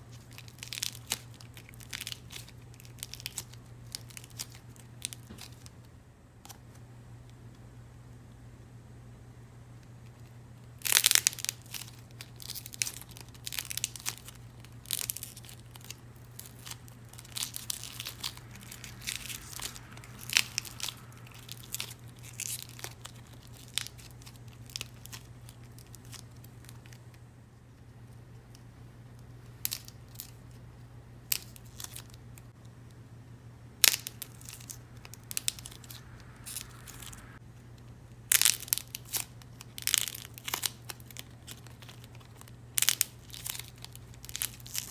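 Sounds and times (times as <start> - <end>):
dried clay snapping and crackling: 0.1 - 5.8, 10.0 - 27.2, 27.8 - 30.4, 31.2 - 32.6, 33.8 - 44.9.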